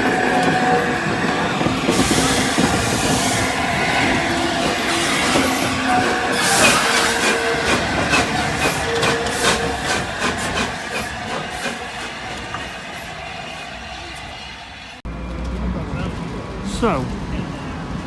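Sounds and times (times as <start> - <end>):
steam train rumbling and hissing: 0.0 - 15.0
rail clicks: 0.0 - 15.6.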